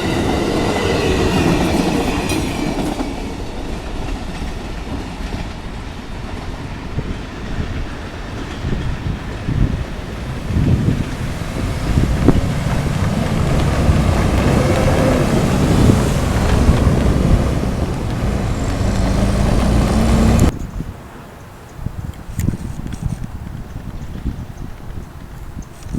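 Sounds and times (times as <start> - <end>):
passenger train rumbling past: 0.0 - 21.3
wind buffeting microphone: 0.0 - 25.9.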